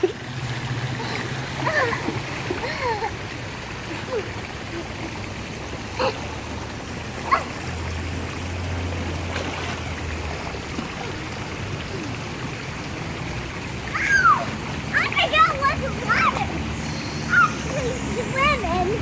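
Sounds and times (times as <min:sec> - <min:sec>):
water fountain running: 0:00.0 - 0:19.0.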